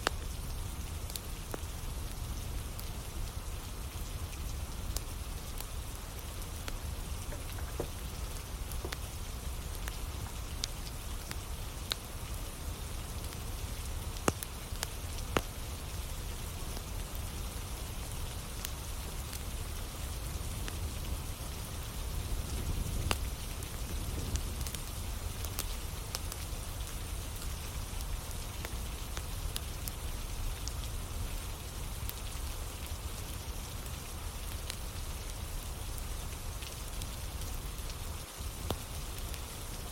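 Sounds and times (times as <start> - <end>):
campfire crackling and popping: 0.0 - 39.9
steady rain falling: 0.0 - 39.9.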